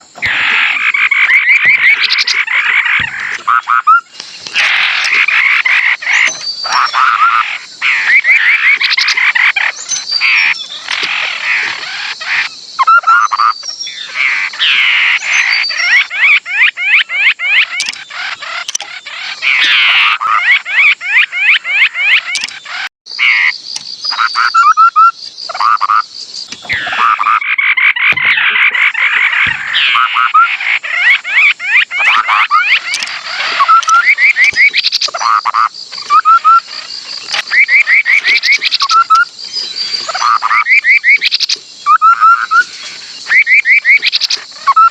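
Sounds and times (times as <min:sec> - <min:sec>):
babbler bird song: 0:00.0 - 0:44.9.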